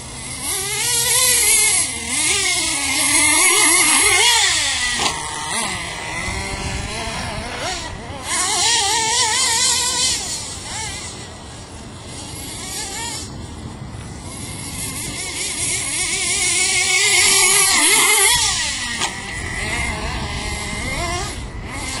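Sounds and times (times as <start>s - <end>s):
rc car motor revving: 0.0s - 22.0s.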